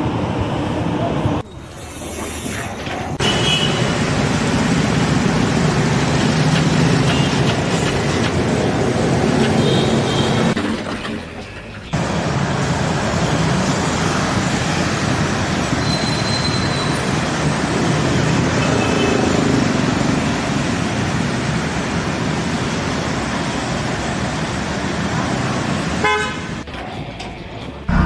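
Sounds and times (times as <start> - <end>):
engine and traffic rumble: 2.8 - 28.0.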